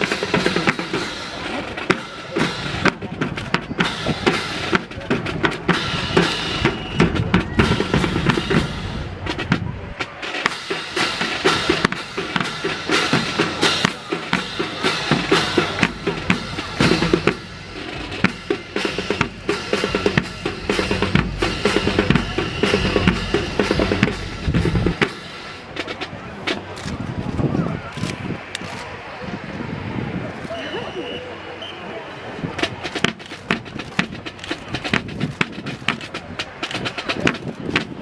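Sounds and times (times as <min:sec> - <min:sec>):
marching drum cadence: 0:00.0 - 0:27.1, 0:32.5 - 0:38.0.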